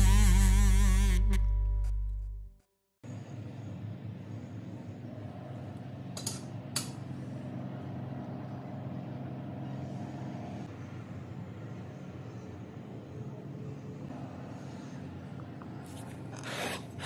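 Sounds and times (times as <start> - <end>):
steady low hum: 3.0 - 17.0.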